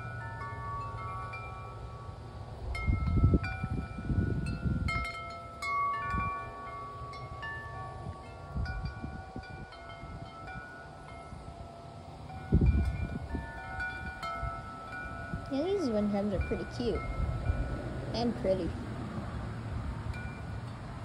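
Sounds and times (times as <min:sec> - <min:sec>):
wind chimes ringing: 0:00.0 - 0:18.7, 0:20.0 - 0:21.0
gusty wind: 0:00.0 - 0:21.0.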